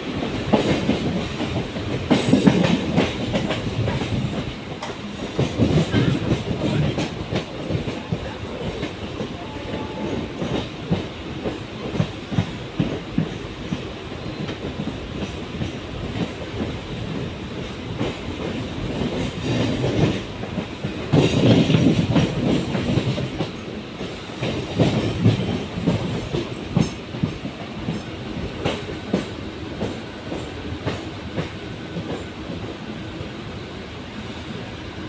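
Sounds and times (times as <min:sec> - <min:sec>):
train rumble: 0:00.0 - 0:35.0
train wheels clattering over joints: 0:00.2 - 0:32.6.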